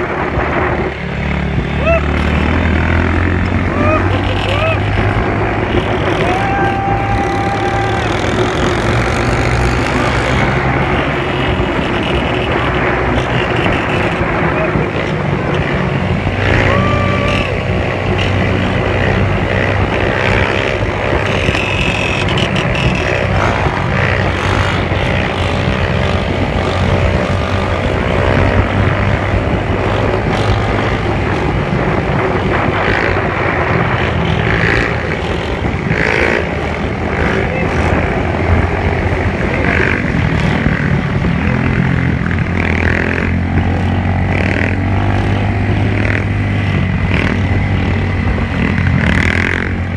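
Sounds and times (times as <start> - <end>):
motorcycle engines running: 0.0 - 49.9.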